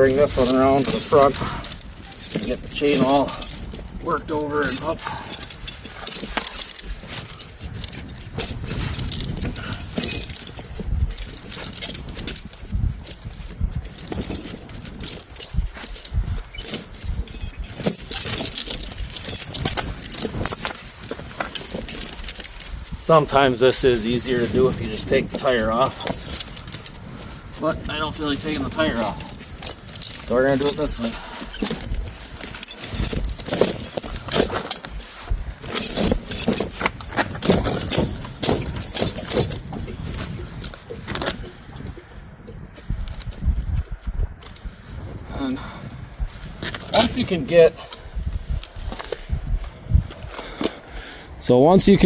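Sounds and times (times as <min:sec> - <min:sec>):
tire chain links clinking: 0:00.0 - 0:51.0.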